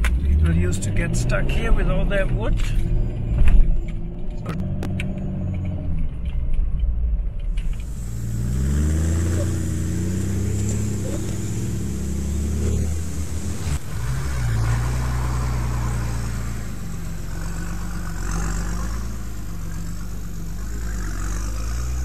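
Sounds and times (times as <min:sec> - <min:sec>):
four-wheel-drive engines at low revs: 0:00.0 - 0:22.0.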